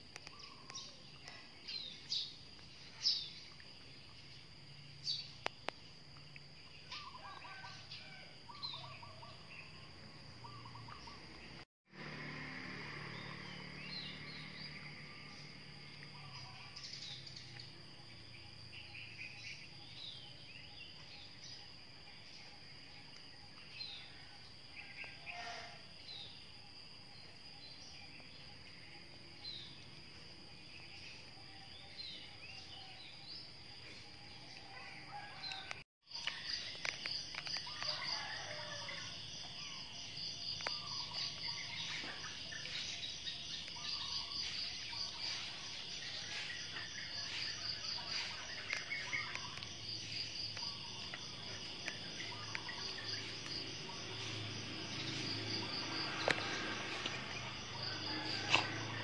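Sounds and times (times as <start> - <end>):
bird chirps: 0.0 - 5.9, 6.7 - 11.6, 13.0 - 59.0
insects trilling: 0.0 - 59.0.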